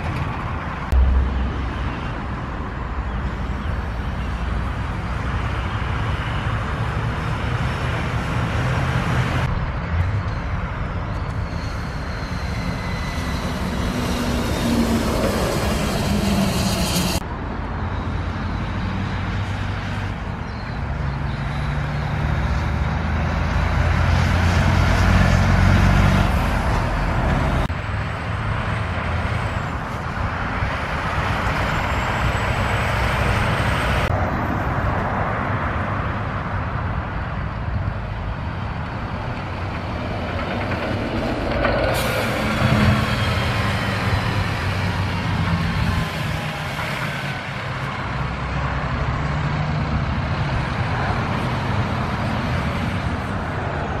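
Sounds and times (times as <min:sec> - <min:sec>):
diesel trucks driving past: 0:00.0 - 0:54.0.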